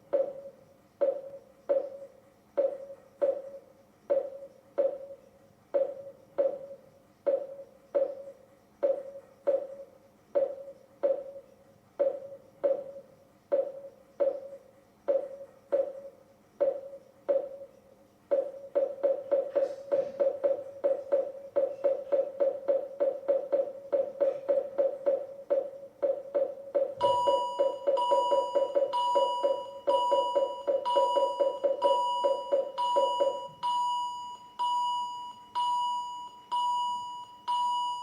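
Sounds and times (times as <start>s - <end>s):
heart rate monitor beeping: 0.0s - 38.0s.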